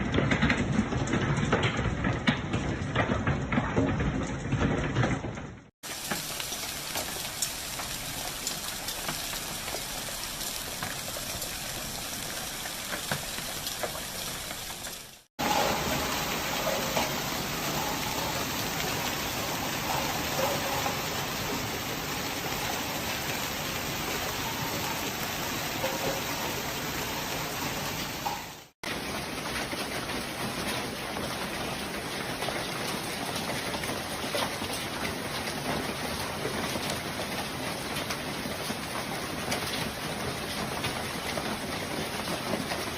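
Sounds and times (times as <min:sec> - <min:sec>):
hail and heavy rain: 0:00.0 - 0:42.9.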